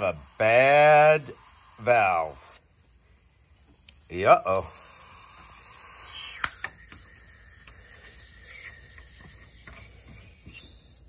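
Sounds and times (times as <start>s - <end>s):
refrigerant hissing from valve: 0.0s - 2.6s, 4.5s - 11.0s.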